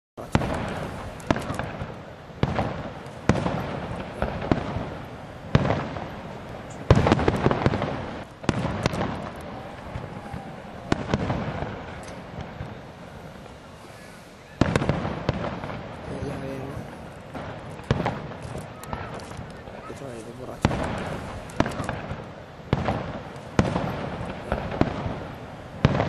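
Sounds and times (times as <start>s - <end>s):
fireworks bursting: 0.2s - 26.0s
fireworks crackle: 0.2s - 26.0s.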